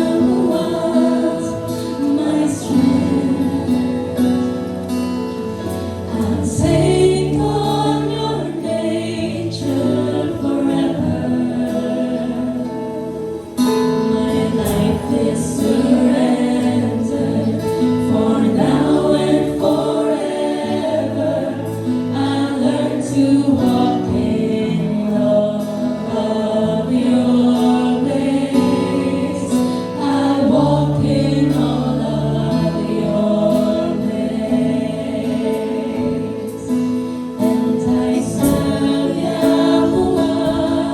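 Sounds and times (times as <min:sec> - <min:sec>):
group singing a worship song: 0:00.0 - 0:40.9.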